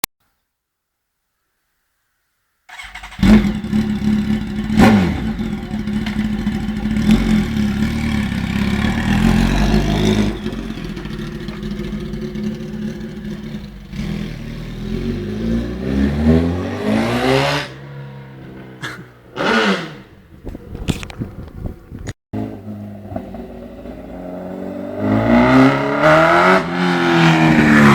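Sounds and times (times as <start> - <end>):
motorcycle engine starting and revving: 2.7 - 27.9.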